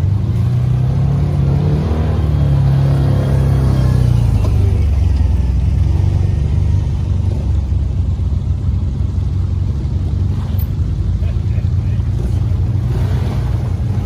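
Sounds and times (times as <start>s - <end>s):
utility vehicle engine rumbling: 0.0s - 14.0s
vehicle driving through mud: 0.0s - 14.0s.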